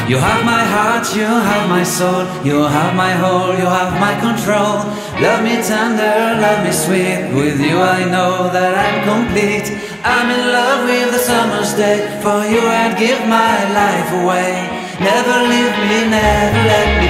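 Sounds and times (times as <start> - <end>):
song with sung vocals: 0.0 - 17.0.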